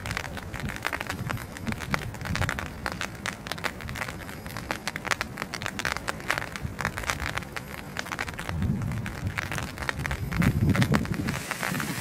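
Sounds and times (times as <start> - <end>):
rain tapping on an umbrella: 0.0 - 12.0
wind rumble: 0.0 - 12.0.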